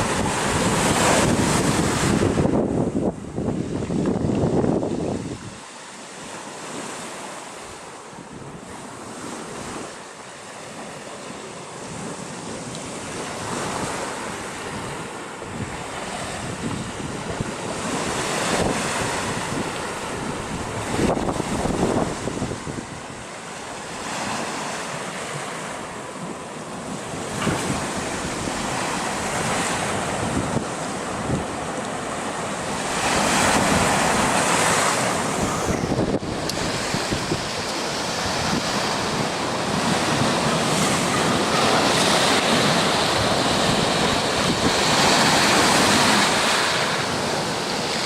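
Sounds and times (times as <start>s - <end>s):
wind buffeting microphone: 0.0s - 5.7s, 11.8s - 24.5s, 25.8s - 48.0s
sea waves breaking on shore: 0.0s - 48.0s.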